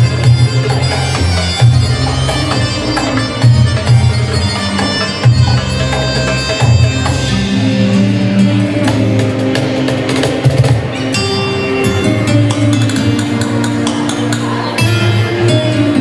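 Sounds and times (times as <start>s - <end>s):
belly-dance music with drums: 0.0s - 16.0s.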